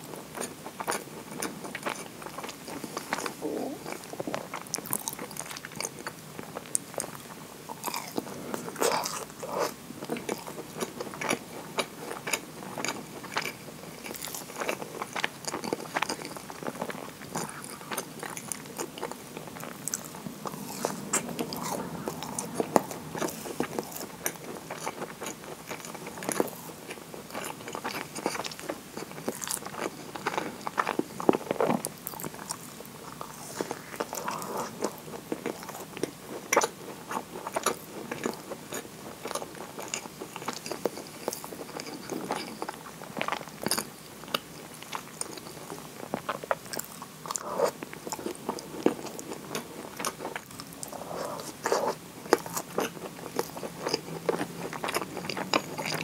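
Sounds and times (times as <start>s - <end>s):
biting and chewing scone: 0.1s - 56.0s.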